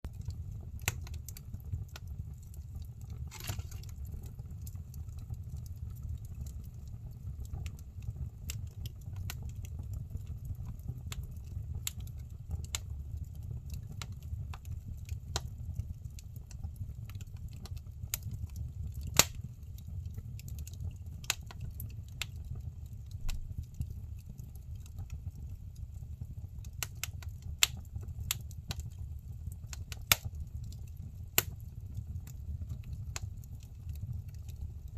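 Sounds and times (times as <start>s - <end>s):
firewood crackling and popping: 0.1s - 34.9s
low rumble of flames: 0.1s - 34.9s.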